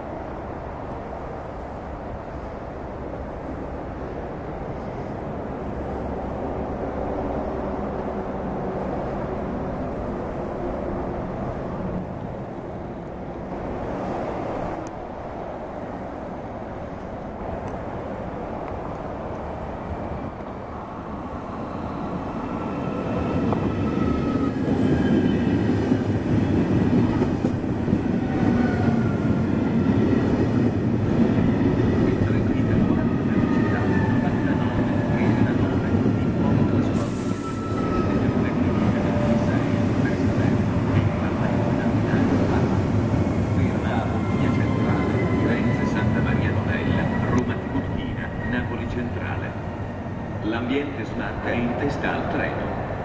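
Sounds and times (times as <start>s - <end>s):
high whine of braking train: 0.0s - 53.0s
train rumble: 0.0s - 53.0s.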